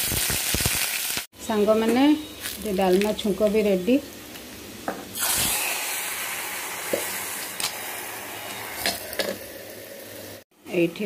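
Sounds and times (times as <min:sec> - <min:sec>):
hot oil sizzling: 0:00.0 - 0:10.4.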